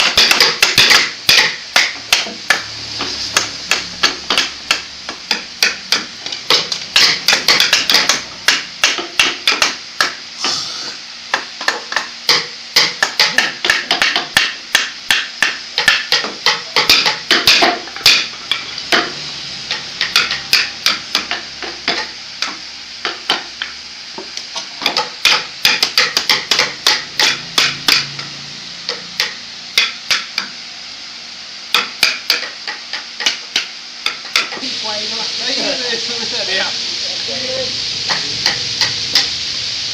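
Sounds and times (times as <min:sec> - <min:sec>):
hammer striking: 0:00.0 - 0:10.6, 0:11.3 - 0:30.6, 0:31.7 - 0:34.6, 0:38.1 - 0:39.4.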